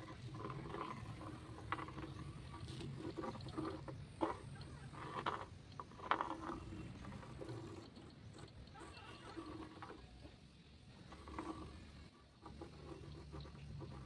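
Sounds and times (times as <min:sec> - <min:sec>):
pencil scratching on wood: 0:00.0 - 0:14.0.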